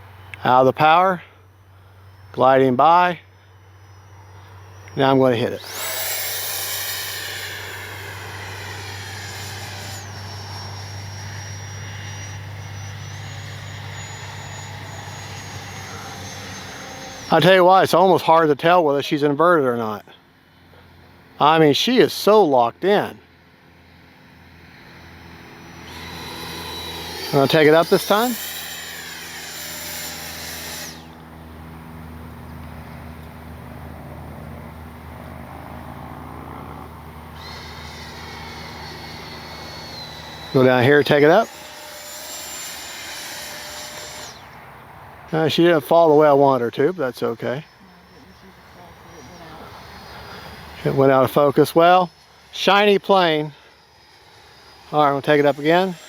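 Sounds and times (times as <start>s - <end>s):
high-pitched electric fan whine: 0.0s - 56.0s.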